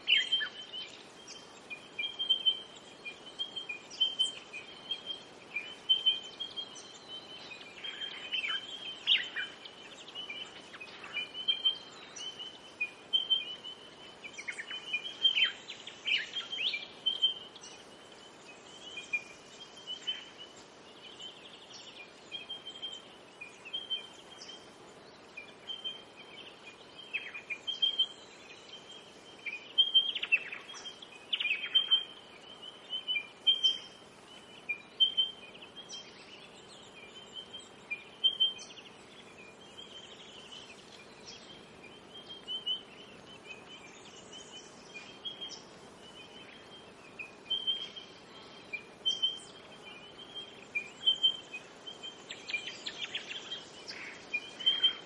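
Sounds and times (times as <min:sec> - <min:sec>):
birds chirping: 0:00.0 - 0:55.0
faint steady hiss: 0:00.0 - 0:55.0.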